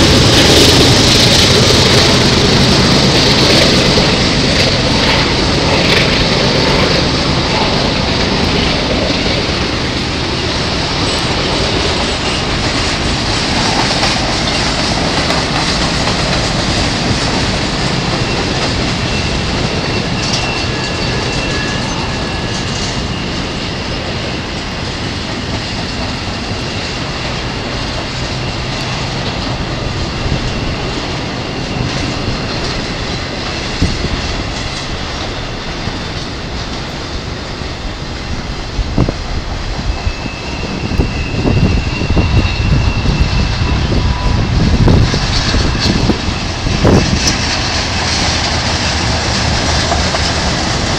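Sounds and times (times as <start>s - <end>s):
freight train wheels rumbling: 0.0s - 50.9s
high wheel squeal: 0.0s - 50.9s.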